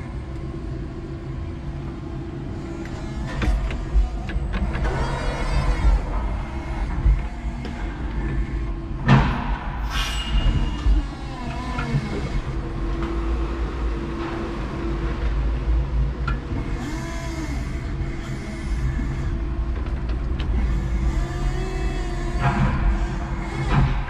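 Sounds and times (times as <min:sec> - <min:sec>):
electric forklift motor whine: 0:00.0 - 0:09.1, 0:10.4 - 0:24.0.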